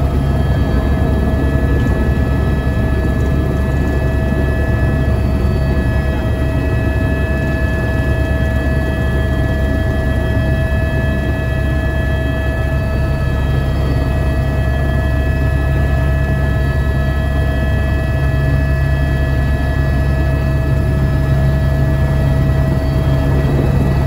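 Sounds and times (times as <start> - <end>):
helicopter engine and rotor rumble: 0.0 - 24.0.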